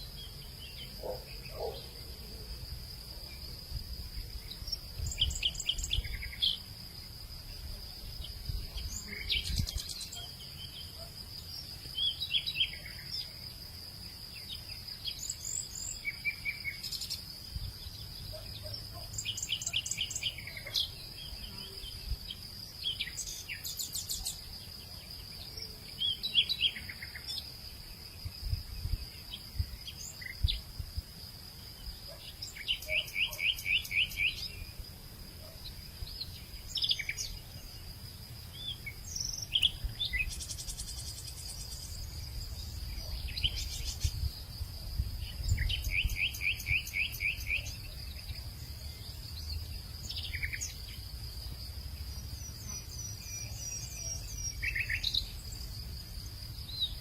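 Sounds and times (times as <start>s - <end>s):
birds chirping and trilling: 0.0s - 3.5s, 4.1s - 6.9s, 7.9s - 13.4s, 14.2s - 30.7s, 31.8s - 34.7s, 35.4s - 57.0s.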